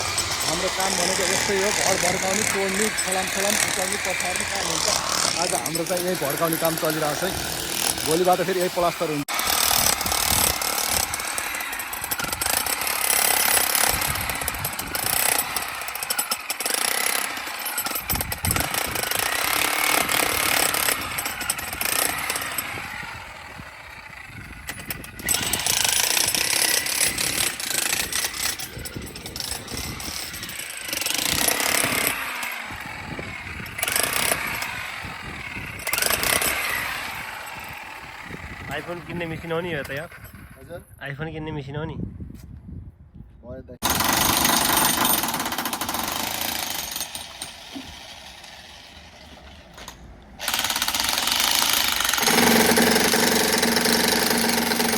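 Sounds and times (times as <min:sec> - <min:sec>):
demolition hammer chipping masonry: 0:00.0 - 0:40.5, 0:43.8 - 0:54.9.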